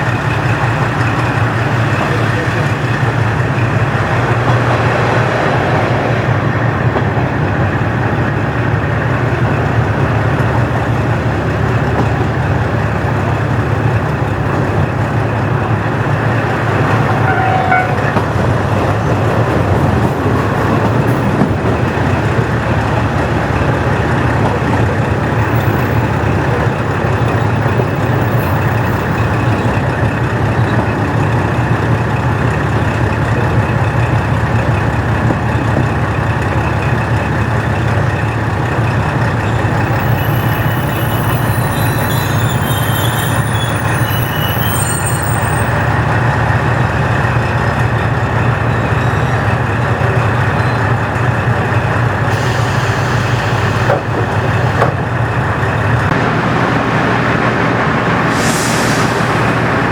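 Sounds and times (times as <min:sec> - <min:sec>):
diesel engine droning: 0:00.0 - 0:59.9
wheels rumbling on rail: 0:00.0 - 0:59.9.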